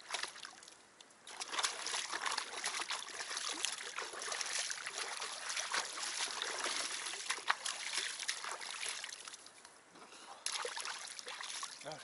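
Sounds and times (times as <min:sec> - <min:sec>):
river water splashing: 0:00.0 - 0:09.6, 0:10.2 - 0:12.0.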